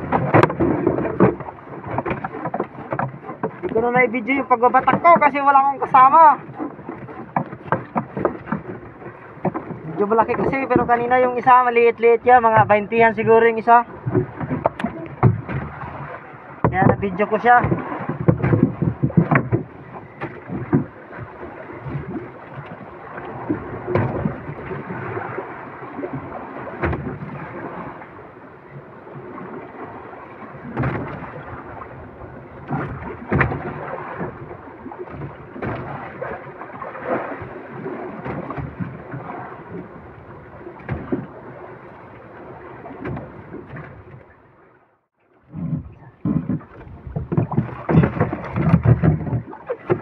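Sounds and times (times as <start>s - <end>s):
knocks from boat and fishing gear: 0.0s - 11.6s, 12.2s - 29.8s, 30.4s - 44.4s, 45.4s - 50.0s
water slapping against boat hull: 0.0s - 50.0s.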